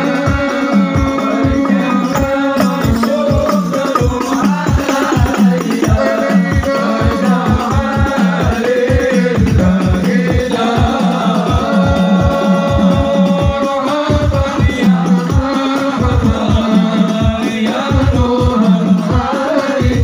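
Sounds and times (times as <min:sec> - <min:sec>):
frame drums: 0:00.0 - 0:20.0
group singing: 0:00.0 - 0:20.0.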